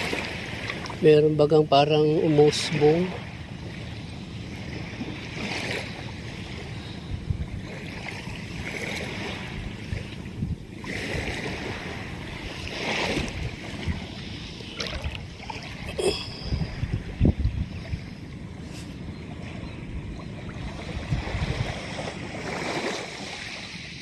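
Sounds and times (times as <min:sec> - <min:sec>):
small waves washing onto beach: 0:00.0 - 0:24.0
wind rumbling on microphone: 0:01.9 - 0:24.0.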